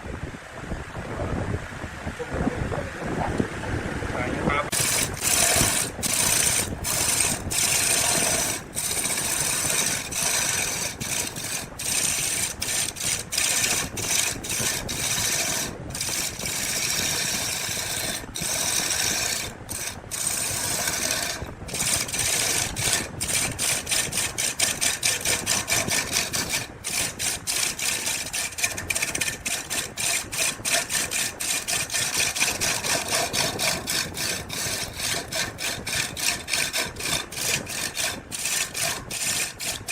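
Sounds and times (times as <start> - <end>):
hand tool scraping wood: 4.7 - 39.9.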